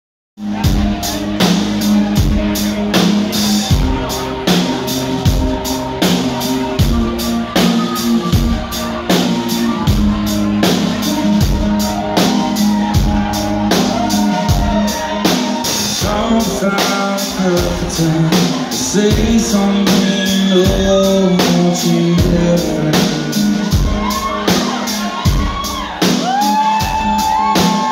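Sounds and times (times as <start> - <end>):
drum kit beat: 0.4 - 27.9
rock band playing: 0.4 - 27.9.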